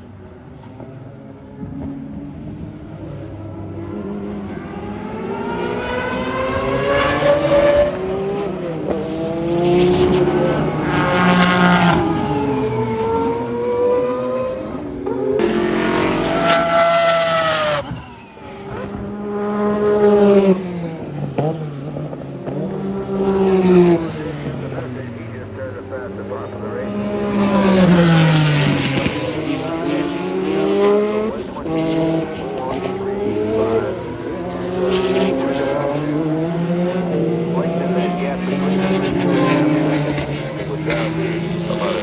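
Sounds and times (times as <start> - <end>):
race cars passing at speed: 0.0 - 42.0.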